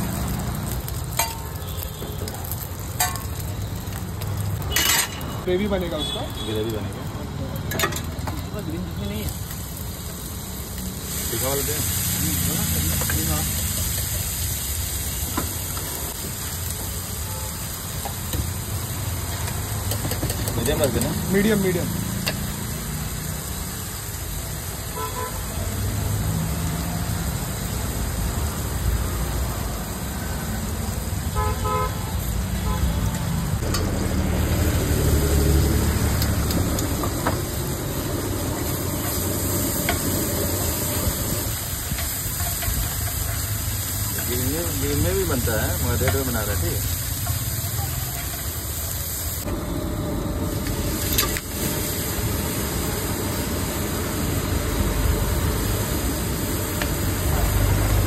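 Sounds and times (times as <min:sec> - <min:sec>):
eggs sizzling in a pan: 0:00.0 - 0:58.0
low traffic rumble: 0:00.0 - 0:58.0.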